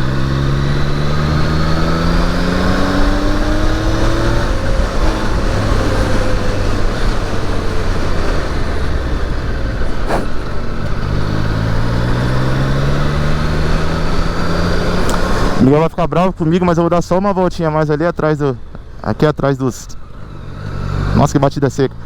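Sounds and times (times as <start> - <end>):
motorcycle engine accelerating: 0.0 - 15.8, 19.9 - 22.0.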